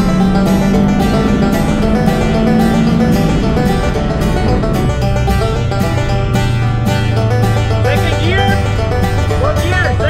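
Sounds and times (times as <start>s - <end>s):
music with plucked strings and beat: 0.0s - 10.0s.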